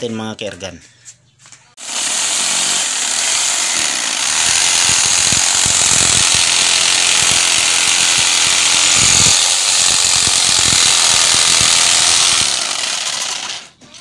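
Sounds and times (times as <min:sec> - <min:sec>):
electric jigsaw cutting wood: 0:01.8 - 0:14.0.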